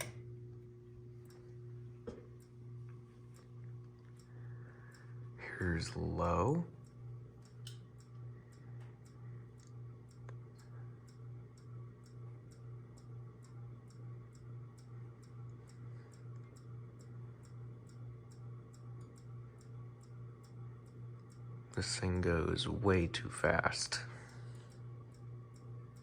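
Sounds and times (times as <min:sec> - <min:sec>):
ceiling fan motor hum: 0:00.0 - 0:26.0
light regular ticking: 0:00.0 - 0:26.0.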